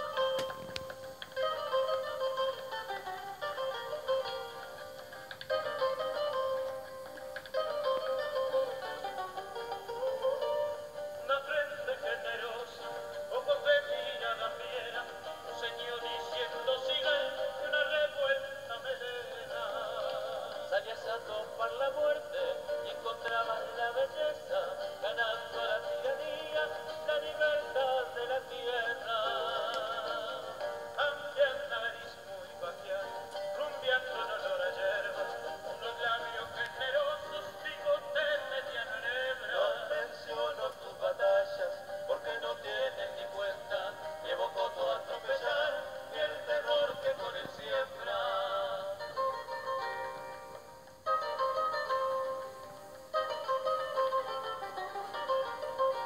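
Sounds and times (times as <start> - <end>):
acoustic guitars: 0.0 - 56.0.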